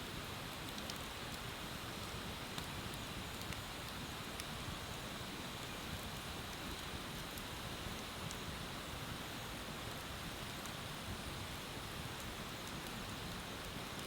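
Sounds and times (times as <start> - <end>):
faint fire crackles: 0.0 - 14.0.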